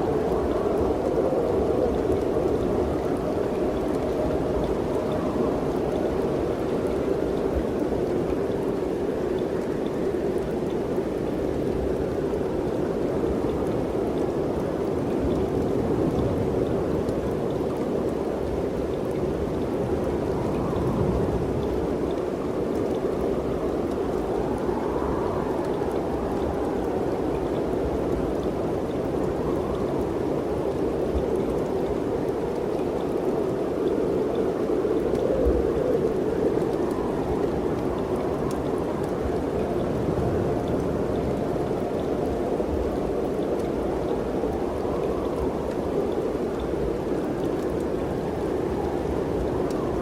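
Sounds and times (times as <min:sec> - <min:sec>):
wind blowing: 0:00.0 - 0:50.0.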